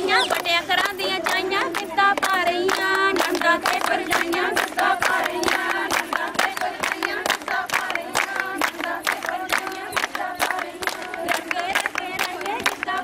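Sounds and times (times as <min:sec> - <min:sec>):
group singing folk song: 0:00.0 - 0:13.0
rhythmic hand clapping: 0:00.0 - 0:13.0.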